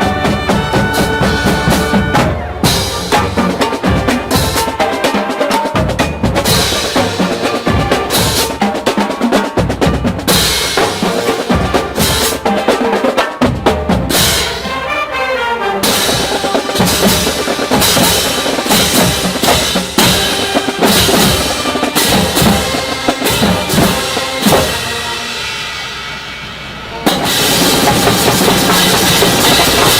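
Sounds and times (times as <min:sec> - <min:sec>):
drumline playing snare and bass drums: 0:00.0 - 0:29.9.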